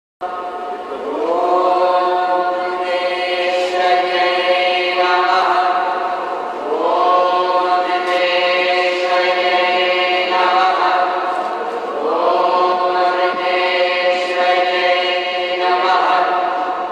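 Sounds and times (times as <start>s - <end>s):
group of voices chanting: 0.2s - 16.9s.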